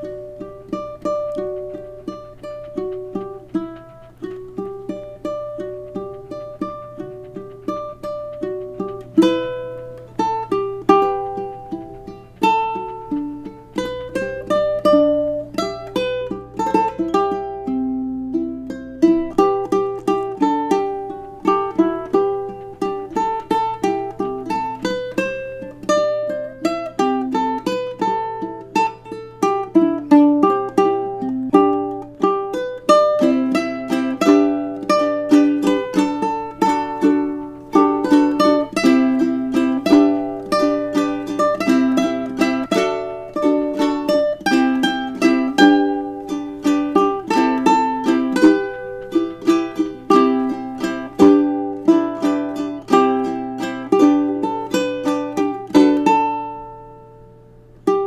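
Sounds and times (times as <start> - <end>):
ukulele playing: 0.0 - 58.0.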